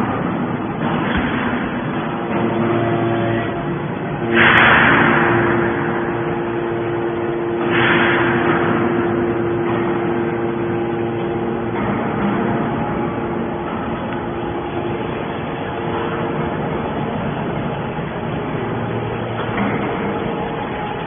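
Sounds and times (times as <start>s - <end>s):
pump motor humming: 0.0s - 21.0s.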